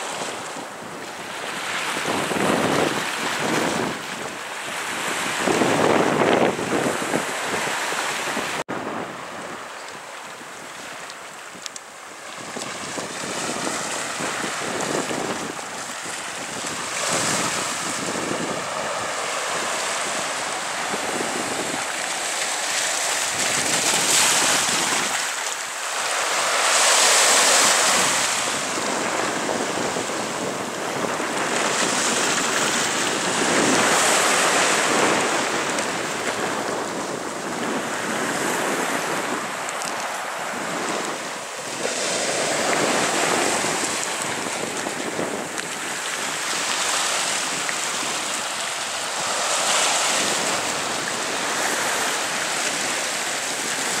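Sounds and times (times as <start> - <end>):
surf washing over rocks: 0.0 - 54.0
wind buffeting the microphone: 0.0 - 54.0.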